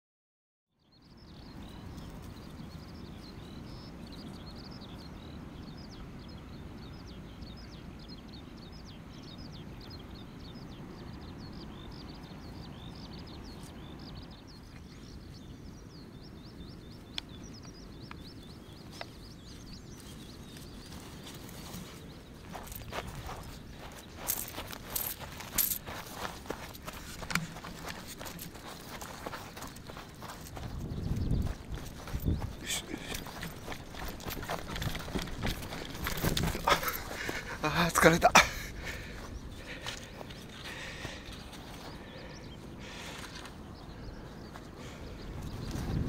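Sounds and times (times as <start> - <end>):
small birds chirping: 0.7 - 46.0.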